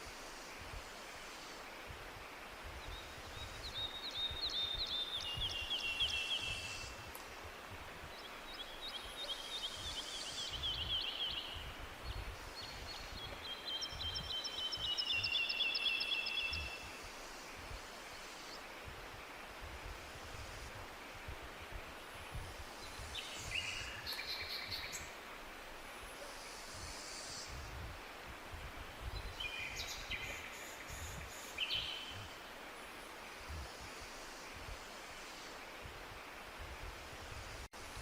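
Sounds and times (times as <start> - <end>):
forest background hiss: 0.0 - 38.0.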